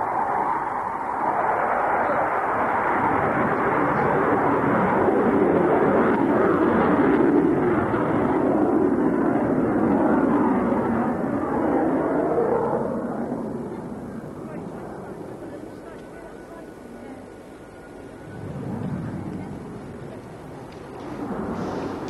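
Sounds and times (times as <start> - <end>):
jet fighter engine rush: 0.0 - 22.0.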